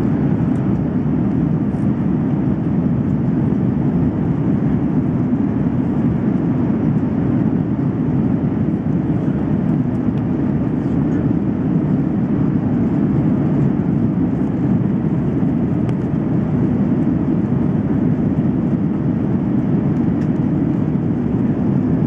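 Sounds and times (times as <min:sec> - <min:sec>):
jet engines in aircraft cabin: 0:00.0 - 0:22.0.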